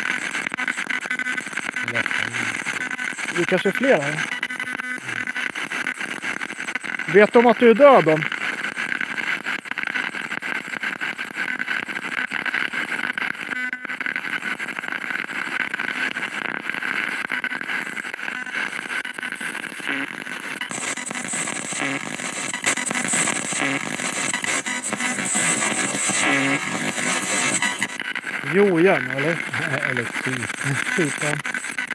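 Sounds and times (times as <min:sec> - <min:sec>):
chopped radio static: 0:00.0 - 0:31.9.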